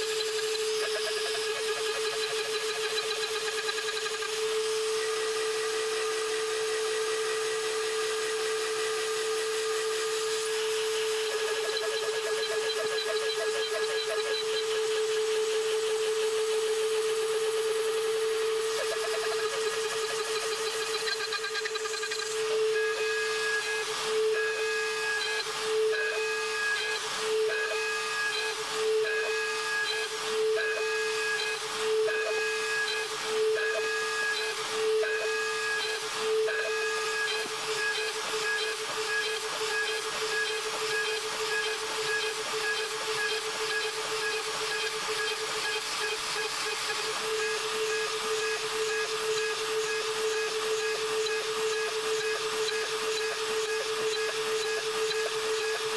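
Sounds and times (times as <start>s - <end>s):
router whining cutting aluminium: 0.0s - 55.9s.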